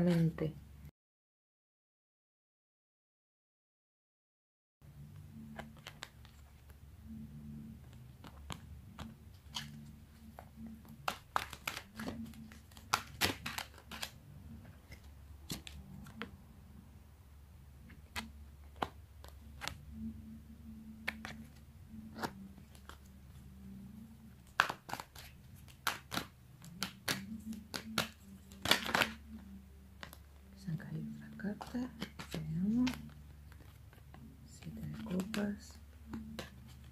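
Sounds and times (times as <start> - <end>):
cards being shuffled: 5.1 - 16.4, 17.8 - 36.9.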